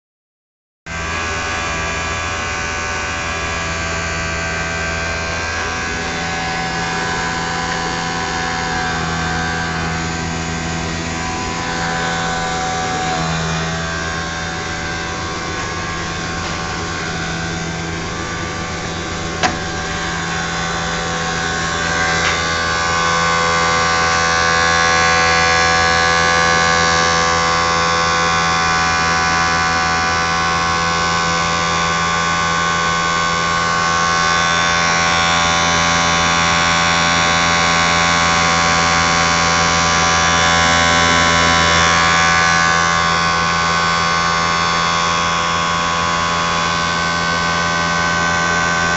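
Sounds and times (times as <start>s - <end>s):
blower motor humming: 0.9s - 48.9s.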